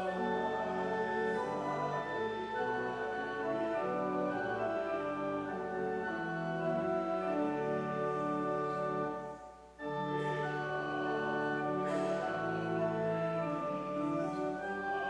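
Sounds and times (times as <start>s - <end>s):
church organ playing a hymn: 0.0s - 15.0s.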